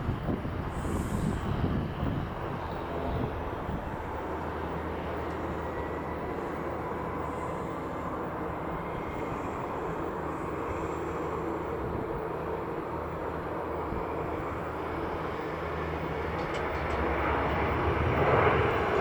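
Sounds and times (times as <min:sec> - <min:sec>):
distant jet engines running: 0:00.0 - 0:19.0.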